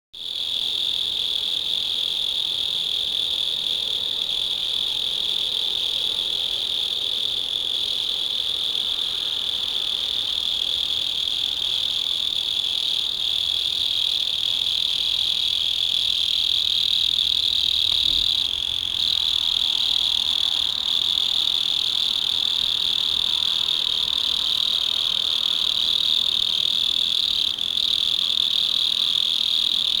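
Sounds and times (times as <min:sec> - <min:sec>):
mole crickets trilling: 0:00.2 - 0:30.0.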